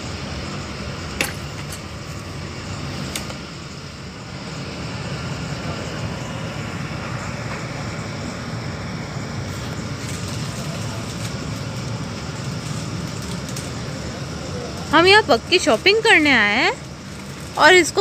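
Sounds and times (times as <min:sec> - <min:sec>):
supermarket background rumble: 0:00.0 - 0:18.0.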